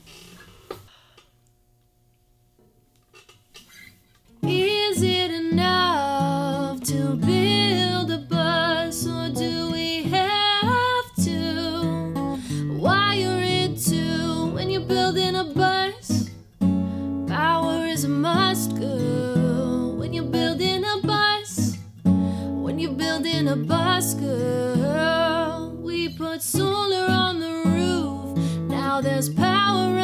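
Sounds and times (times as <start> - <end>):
acoustic guitar: 3.1 - 30.0
woman singing: 4.4 - 16.3, 17.2 - 21.8, 22.4 - 30.0.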